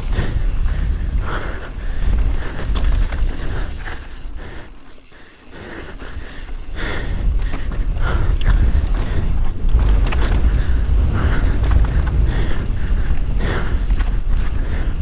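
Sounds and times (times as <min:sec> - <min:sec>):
wind rumbling on microphone: 0:00.0 - 0:04.6, 0:06.0 - 0:15.0
bike rattling: 0:00.0 - 0:15.0
bike tyres on dirt trail: 0:00.0 - 0:15.0
rider breathing hard: 0:00.0 - 0:15.0.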